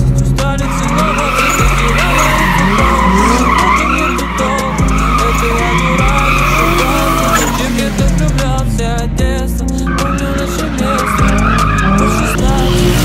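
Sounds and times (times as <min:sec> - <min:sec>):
engine revving: 0:00.0 - 0:13.0
music with heavy bass: 0:00.0 - 0:13.0
car tyres squealing: 0:00.4 - 0:08.8, 0:09.6 - 0:13.0.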